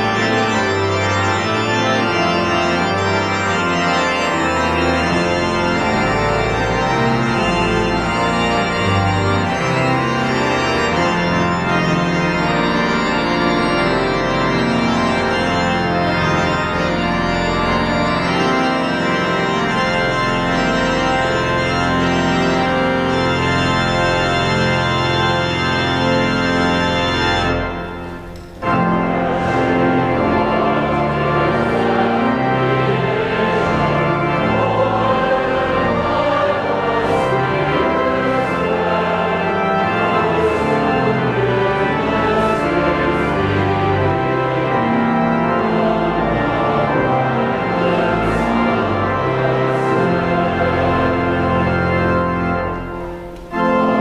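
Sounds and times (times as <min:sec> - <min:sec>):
pipe organ playing chords: 0:00.0 - 0:54.0.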